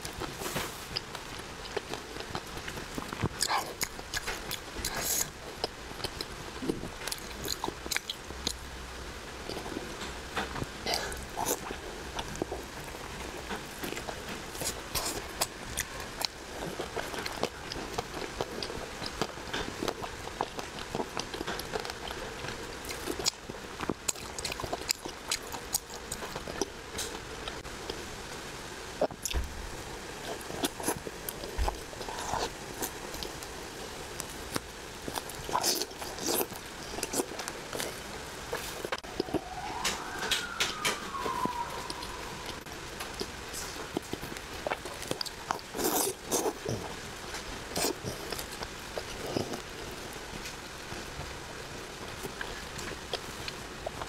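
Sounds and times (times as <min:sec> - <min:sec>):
person chewing with mouth clicks: 0:00.0 - 0:08.6, 0:09.5 - 0:12.7, 0:13.3 - 0:28.0, 0:30.2 - 0:33.5, 0:34.2 - 0:39.5, 0:41.2 - 0:51.0.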